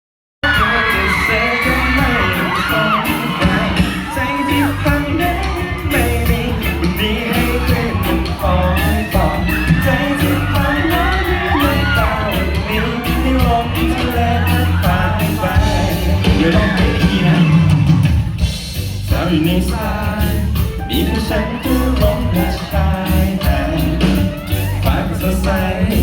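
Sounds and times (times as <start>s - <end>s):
audience yelling and whooping: 0.4s - 26.0s
live pop band playing: 0.4s - 26.0s.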